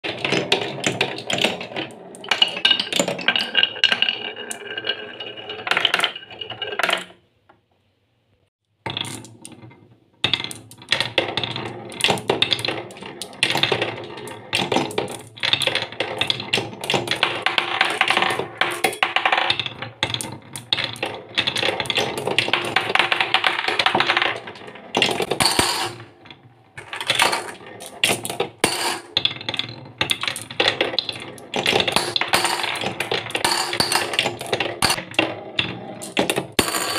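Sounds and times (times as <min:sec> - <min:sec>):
marbles rattling on wooden tracks: 0:00.1 - 0:07.2, 0:10.2 - 0:36.9.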